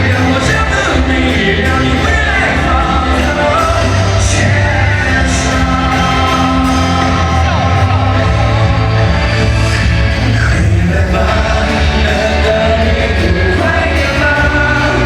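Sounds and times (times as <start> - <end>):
crowd shouting and whooping: 0.0 - 15.0
live pop-rock band with singing: 0.0 - 15.0.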